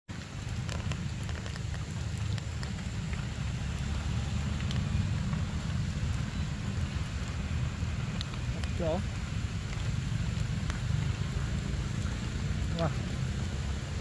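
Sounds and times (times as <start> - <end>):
low rumble: 0.1 - 14.0
raindrops ticking: 0.1 - 14.0
steady rain: 0.1 - 14.0.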